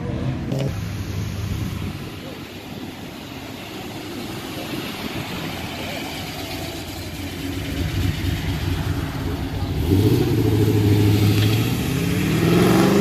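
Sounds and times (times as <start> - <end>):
car engine passing slowly: 1.0 - 13.0.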